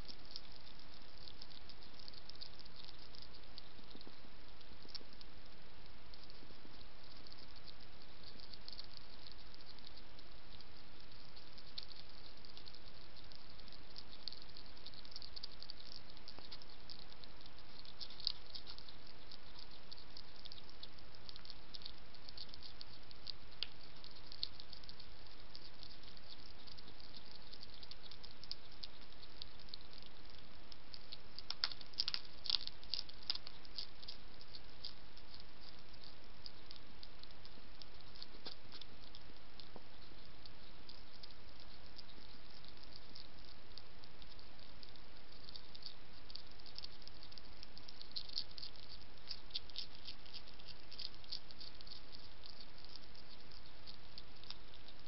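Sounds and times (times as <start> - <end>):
hedgehog crunching dry food: 0.0 - 55.0
steady hiss: 0.0 - 55.0.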